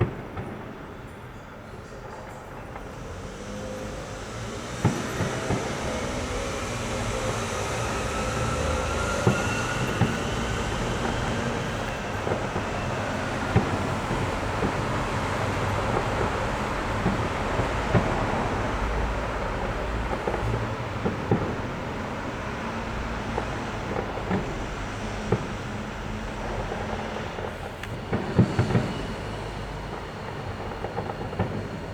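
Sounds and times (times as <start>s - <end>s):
faint fireworks whistles: 0.0s - 31.9s
fireworks bangs: 0.0s - 31.9s
fireworks crackling: 0.0s - 31.9s.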